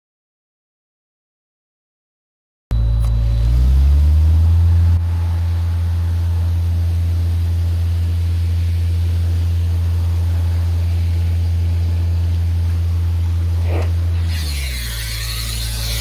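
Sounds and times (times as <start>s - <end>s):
air compressor engine droning: 2.7s - 16.0s
brief rising whine: 2.7s - 16.0s.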